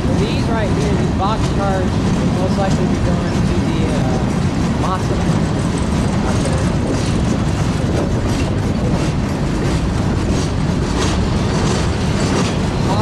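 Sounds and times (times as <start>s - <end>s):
freight train wheels rumbling: 0.0s - 13.0s
rhythmic clickety-clack: 0.0s - 13.0s.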